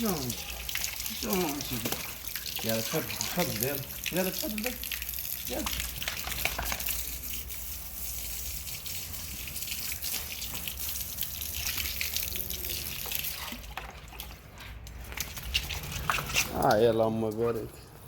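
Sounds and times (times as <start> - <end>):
running water splashing: 0.0 - 16.9.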